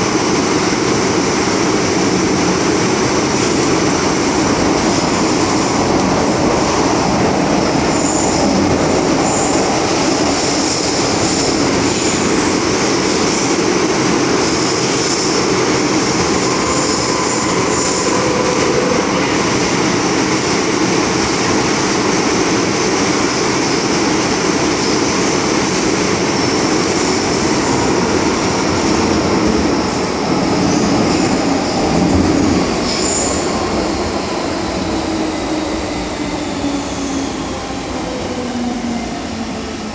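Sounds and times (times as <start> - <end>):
wheels rumbling on rail: 0.0 - 39.9.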